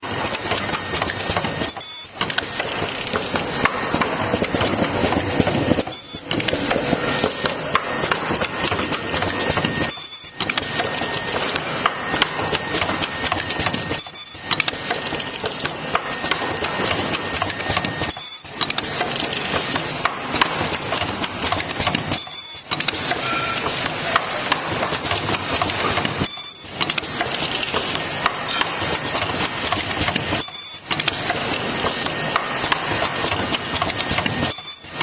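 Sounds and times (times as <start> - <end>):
machine rapid clicking and clatter: 0.0 - 35.0.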